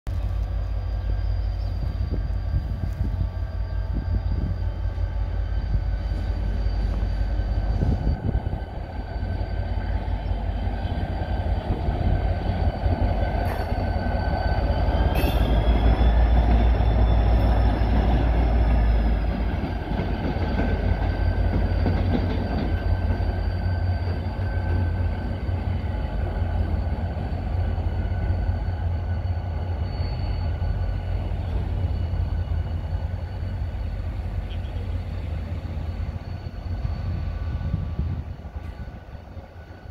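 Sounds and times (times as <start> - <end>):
locomotive engine rumble: 0.1 - 39.9.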